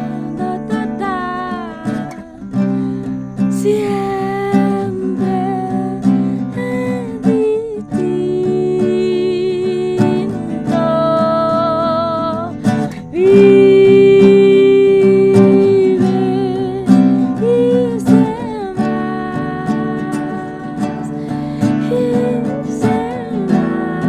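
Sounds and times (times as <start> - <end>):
strummed nylon-string guitar: 0.0 - 24.0
woman singing long notes: 0.0 - 24.0.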